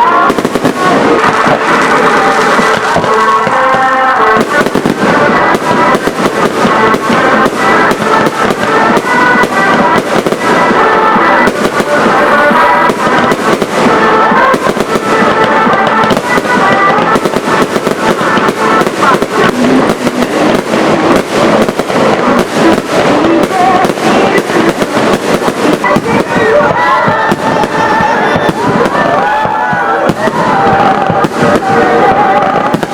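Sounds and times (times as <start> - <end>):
fireworks bangs and crackle: 0.0 - 32.9
music: 0.0 - 32.9.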